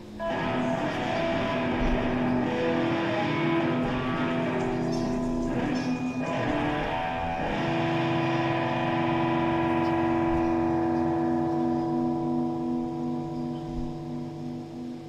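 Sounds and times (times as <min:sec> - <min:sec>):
electric guitar droning notes: 0:00.0 - 0:15.0
scratchy string noise: 0:00.2 - 0:12.3.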